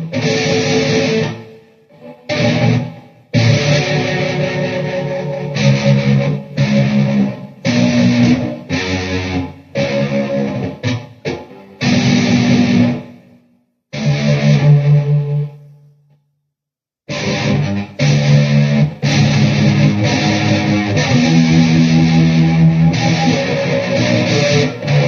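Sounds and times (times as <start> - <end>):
electric guitar chord stabs: 0.0 - 13.2, 17.1 - 25.0.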